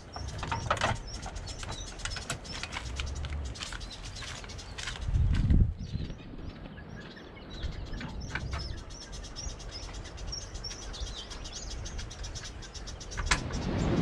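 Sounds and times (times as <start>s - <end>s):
small birds chirping: 0.0s - 14.0s
wind rumbling on microphone: 0.0s - 14.0s.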